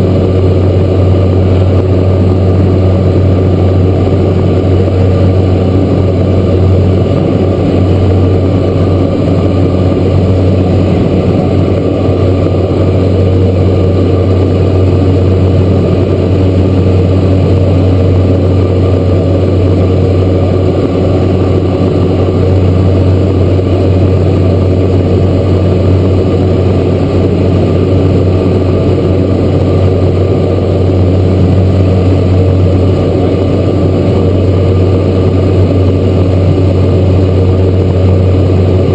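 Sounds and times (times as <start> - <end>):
turboprop engine drone in cabin: 0.0 - 38.9.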